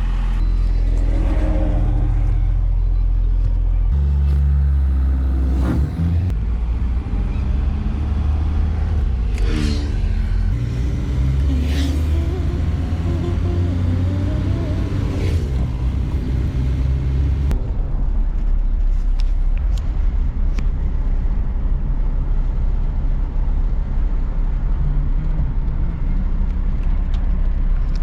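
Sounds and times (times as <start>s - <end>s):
engine running low: 0.0s - 28.0s.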